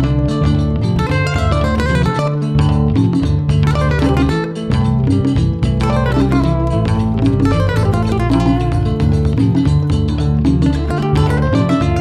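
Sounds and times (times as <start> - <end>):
flamenco acoustic guitar: 0.0 - 12.0.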